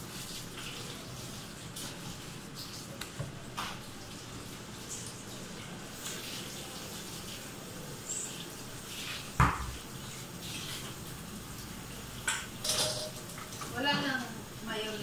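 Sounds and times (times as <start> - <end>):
kitchen room noise: 0.0 - 15.0.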